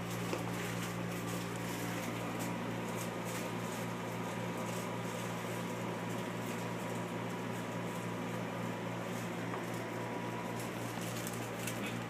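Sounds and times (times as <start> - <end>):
machine low hum: 0.0 - 12.0
thin steady whine: 0.0 - 12.0.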